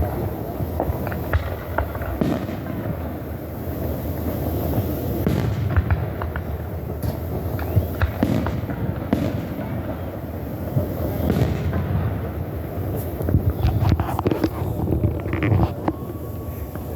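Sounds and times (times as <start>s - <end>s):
fireworks crackle and rumble: 0.0s - 16.9s
fireworks sharp bangs: 0.0s - 16.9s.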